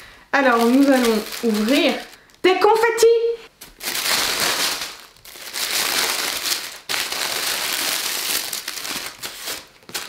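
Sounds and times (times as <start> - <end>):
tissue paper crinkling: 0.4 - 3.0, 3.6 - 10.0.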